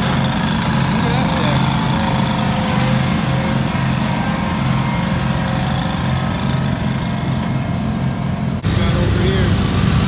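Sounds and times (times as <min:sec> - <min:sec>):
garden tractor engines running: 0:00.0 - 0:10.0.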